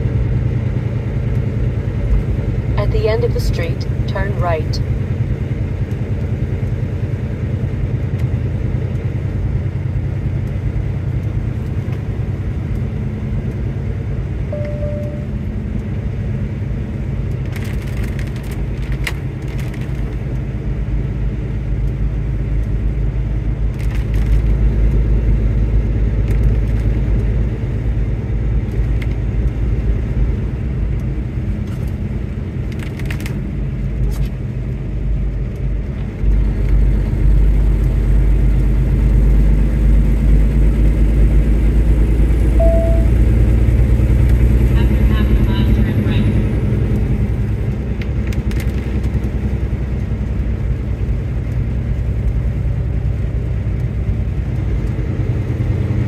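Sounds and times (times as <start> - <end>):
car engine and tyres on wet road: 0.0 - 56.0.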